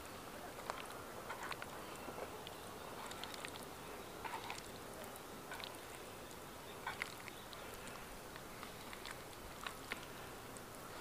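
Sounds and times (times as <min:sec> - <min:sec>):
faint steady hiss: 0:00.0 - 0:11.0
wet squishing of vegetables: 0:00.0 - 0:11.0.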